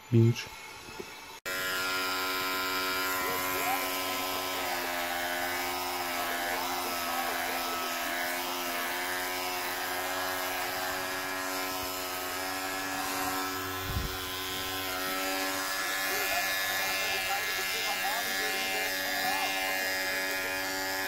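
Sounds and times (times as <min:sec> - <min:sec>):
electric hair clipper buzzing: 0:01.4 - 0:21.0.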